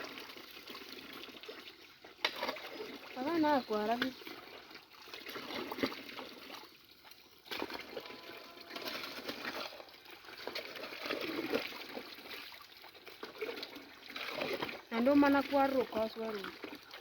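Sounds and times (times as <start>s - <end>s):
stream water splashing and trickling: 0.0s - 17.0s.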